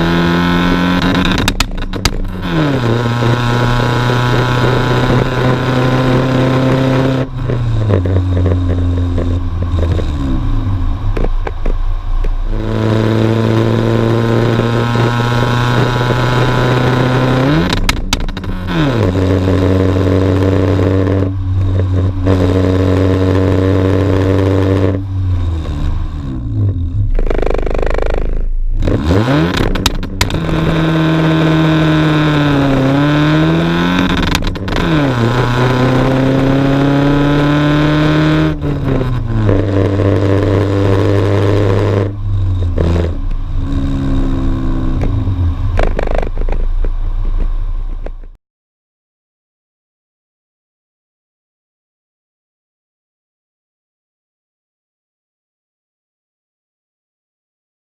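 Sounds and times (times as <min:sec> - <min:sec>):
car engine exhaust note: 0:00.0 - 0:48.4.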